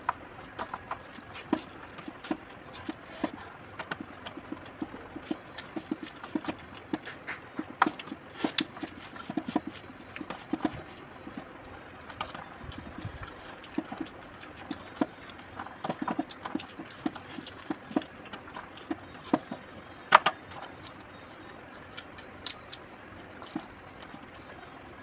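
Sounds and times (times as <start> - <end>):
fingers working rice on steel plate: 0.0 - 22.8
chewing and lip smacks: 0.0 - 25.0.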